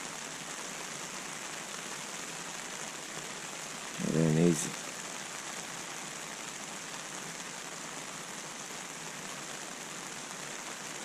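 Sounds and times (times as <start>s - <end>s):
steady rain on vegetation: 0.0s - 11.0s.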